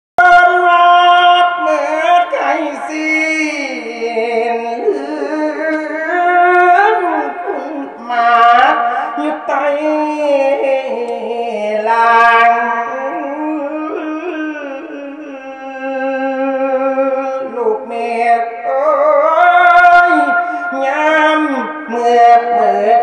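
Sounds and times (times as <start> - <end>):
monk singing into microphone: 0.2 - 23.0.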